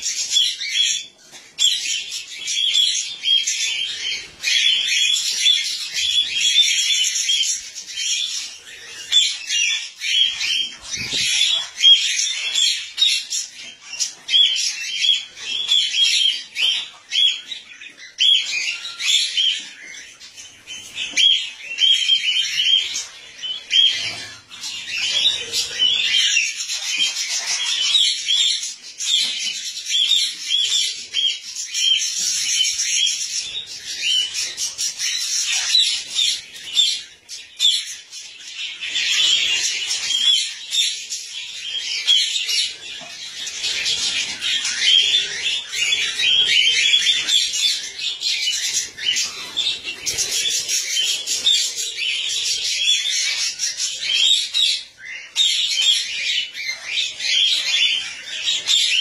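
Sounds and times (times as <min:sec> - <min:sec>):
cockatiels chirping and squawking: 0:00.0 - 0:59.0.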